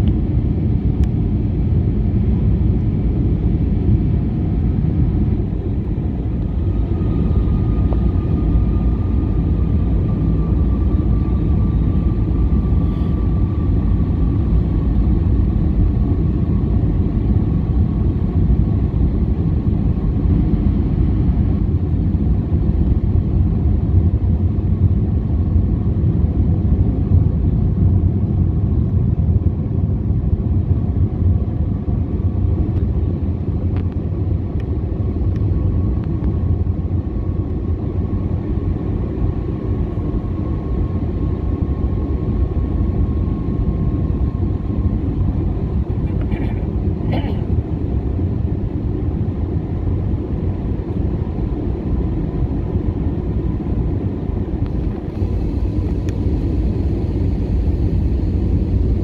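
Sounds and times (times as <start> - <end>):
airliner cabin rumble: 0.0 - 59.0
faint whine: 0.0 - 59.0.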